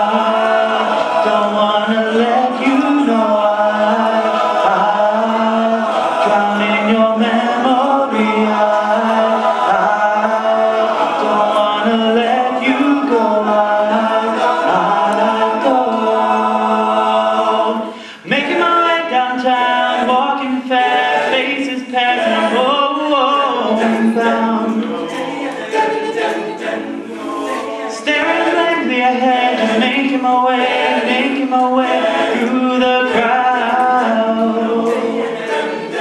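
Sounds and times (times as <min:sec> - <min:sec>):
male group singing harmony: 0:00.0 - 0:36.0.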